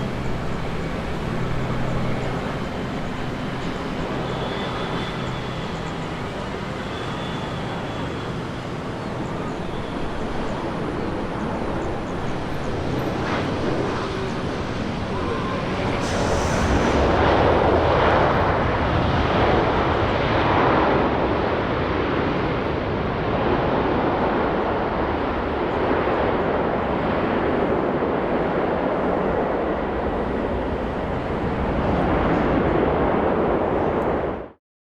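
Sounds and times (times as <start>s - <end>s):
jet airliner engines roaring: 0.0s - 34.6s.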